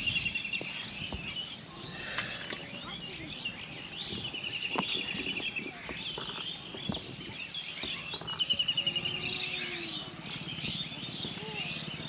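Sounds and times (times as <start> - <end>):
rapid bird trill: 0.0 - 12.0
small birds chirping: 0.0 - 12.0.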